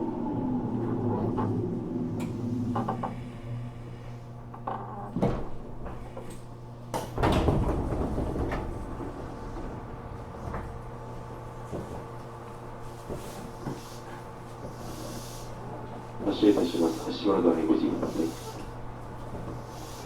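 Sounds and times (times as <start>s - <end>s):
train equipment hum: 0.0s - 20.0s.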